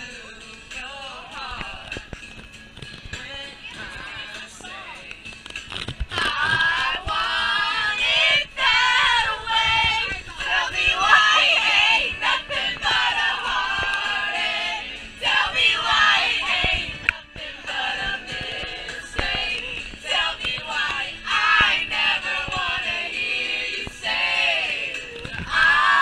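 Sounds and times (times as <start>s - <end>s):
women singing together: 3.1s - 5.4s, 6.0s - 26.0s.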